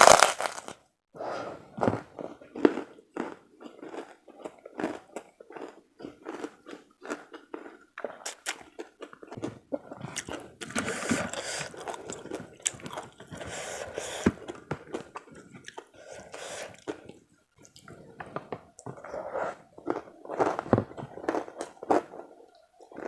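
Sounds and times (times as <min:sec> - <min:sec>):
chewing and biting food: 0:01.9 - 0:23.0.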